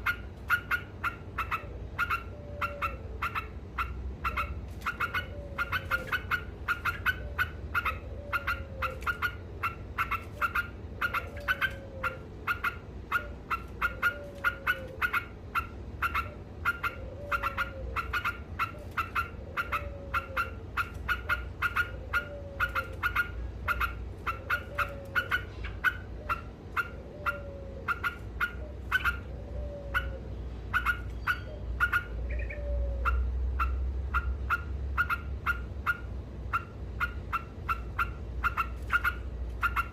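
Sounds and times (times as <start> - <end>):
bulbul chattering: 0.0 - 39.9
steady low hum: 0.0 - 39.9.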